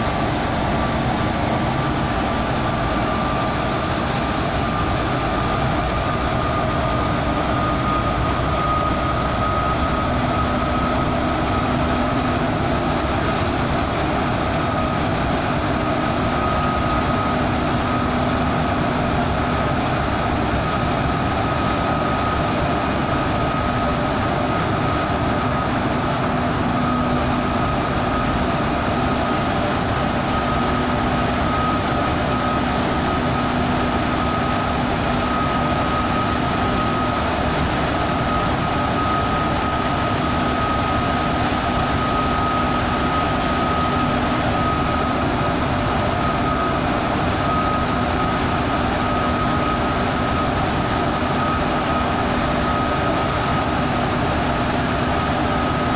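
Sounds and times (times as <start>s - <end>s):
steady high whine: 0.0s - 55.9s.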